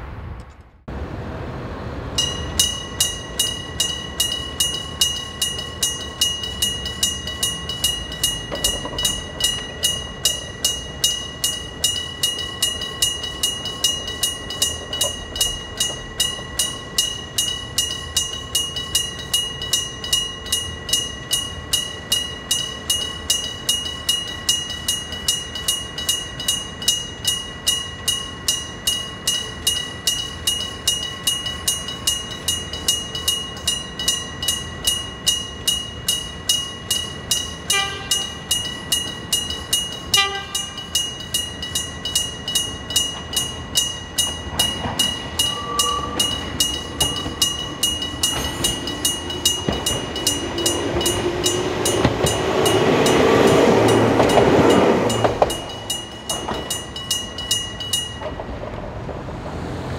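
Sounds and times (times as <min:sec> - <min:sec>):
railway crossing bell ringing: 0:02.2 - 0:58.8.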